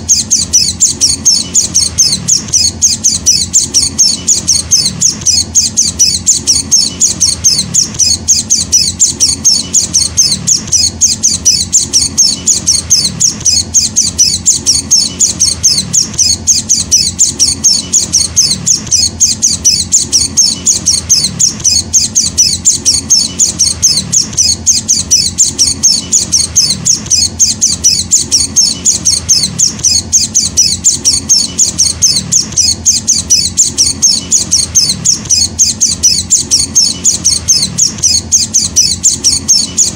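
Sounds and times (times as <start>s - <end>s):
chick chirping high-pitched: 0.0s - 39.9s.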